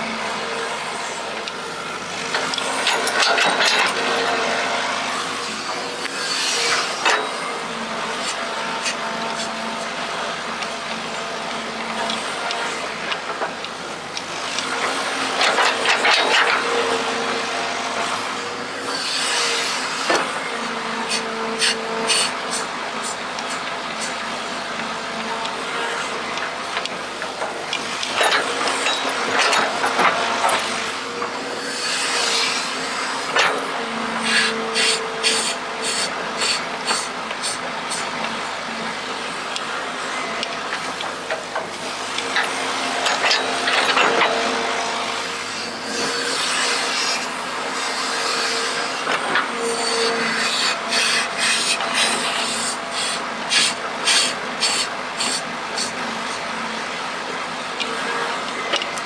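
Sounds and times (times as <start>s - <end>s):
motors and pump whining: 0.0s - 59.0s.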